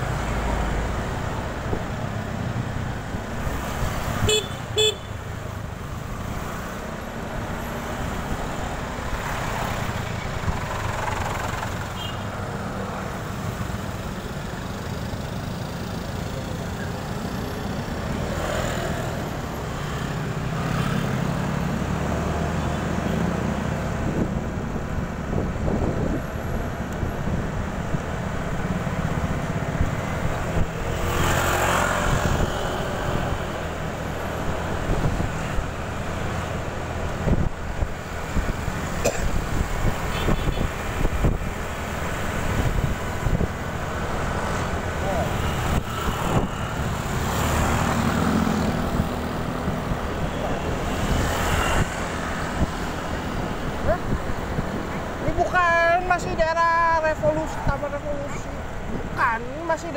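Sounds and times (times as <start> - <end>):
road and traffic noise: 0.0 - 59.9.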